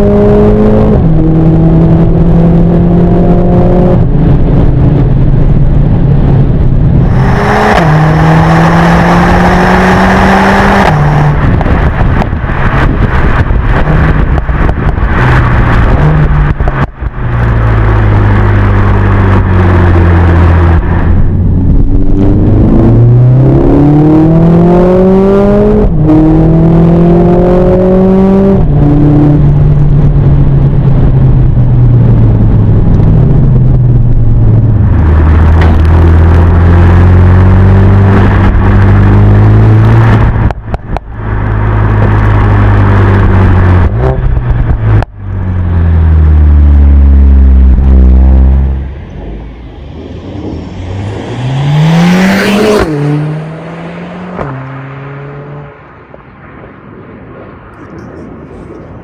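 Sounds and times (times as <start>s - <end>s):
car engine accelerating hard: 0.0s - 56.2s.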